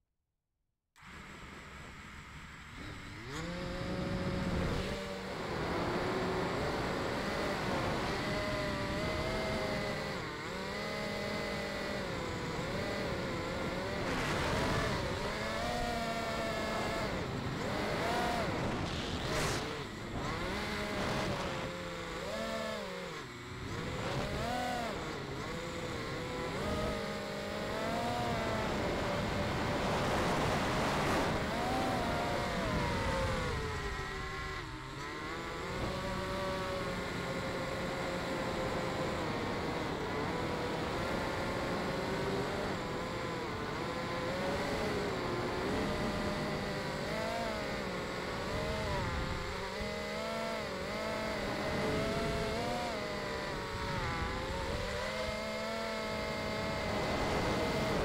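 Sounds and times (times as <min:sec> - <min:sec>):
drone motors and propellers whining: 0:01.0 - 0:58.0.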